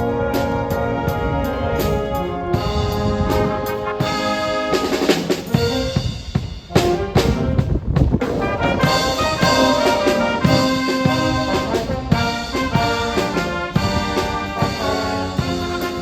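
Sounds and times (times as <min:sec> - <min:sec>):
drums: 0:00.0 - 0:16.0
trumpets and trombones playing: 0:00.0 - 0:16.0.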